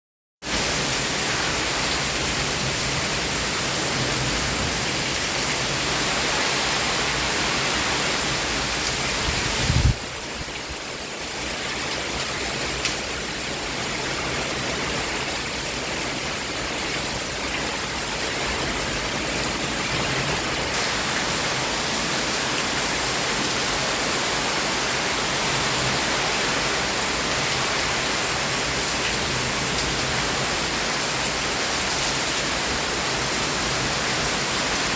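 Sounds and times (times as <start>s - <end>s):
heavy rain: 0.4s - 34.9s.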